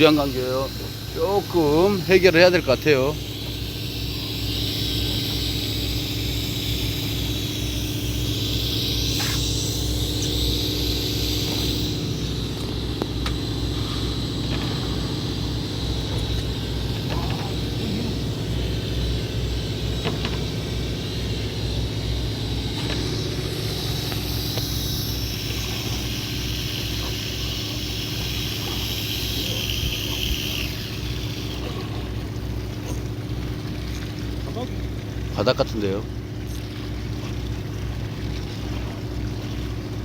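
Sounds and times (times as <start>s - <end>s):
boat engine throbbing: 0.0s - 40.0s.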